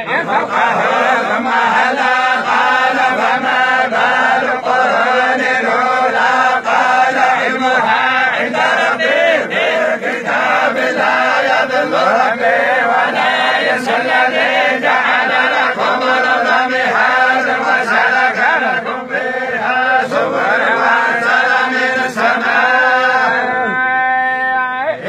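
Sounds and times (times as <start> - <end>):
men chanting in unison: 0.0 - 25.0.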